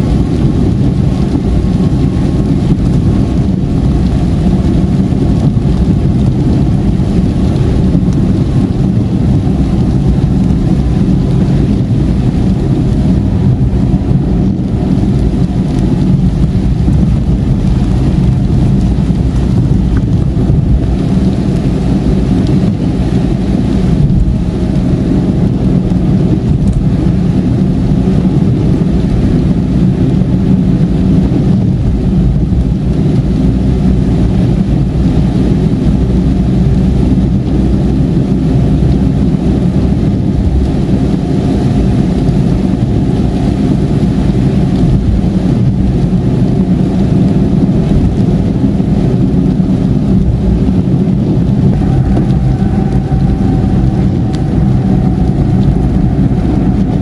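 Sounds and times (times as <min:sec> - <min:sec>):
car driving at highway speed: 0:00.0 - 0:57.0.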